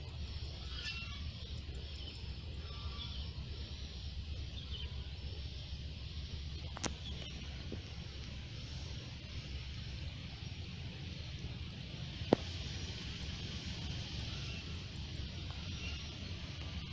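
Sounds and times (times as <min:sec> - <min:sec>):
small birds chirping: 0:00.0 - 0:16.9
steady low rumble: 0:00.0 - 0:16.9.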